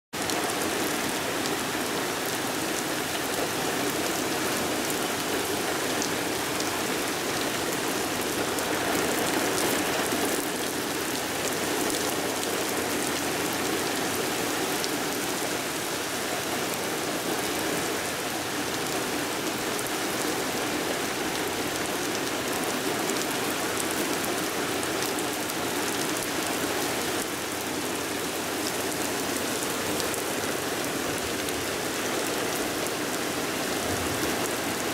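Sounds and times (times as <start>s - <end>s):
heavy rain pattering: 0.2s - 34.9s.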